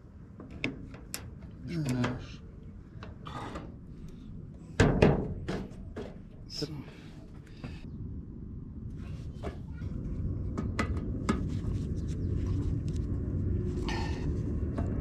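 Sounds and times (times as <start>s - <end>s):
low rumble: 1.5s - 15.0s.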